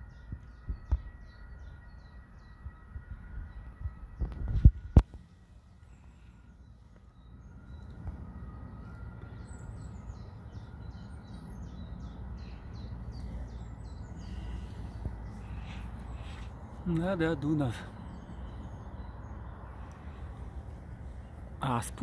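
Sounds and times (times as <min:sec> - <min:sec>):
songbird singing: 0:00.0 - 0:22.0
low outdoor rumble: 0:02.1 - 0:22.0.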